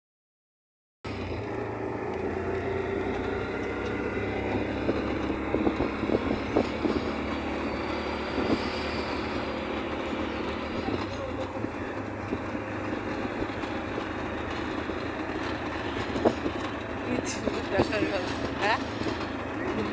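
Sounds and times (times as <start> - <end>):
vehicle motor running: 1.1 - 19.9.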